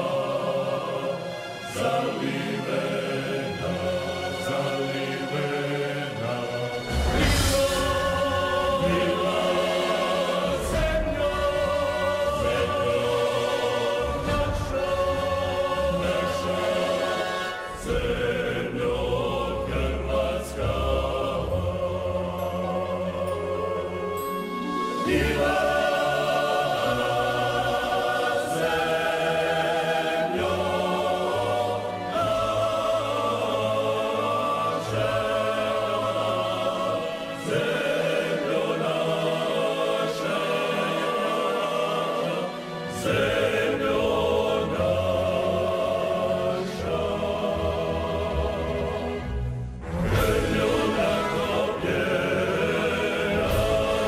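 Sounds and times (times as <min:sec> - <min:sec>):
male choir singing: 0:00.0 - 0:54.0
orchestral accompaniment: 0:00.0 - 0:54.0.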